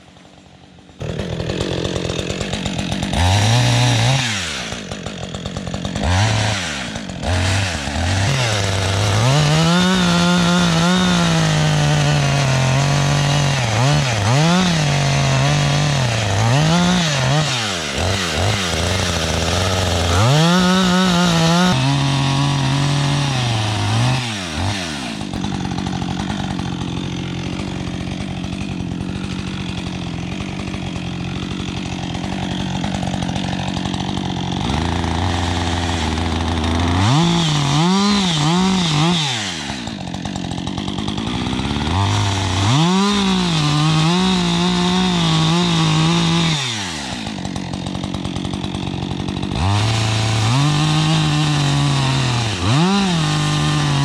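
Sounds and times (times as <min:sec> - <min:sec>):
chainsaw revving and cutting: 0:00.0 - 0:54.0.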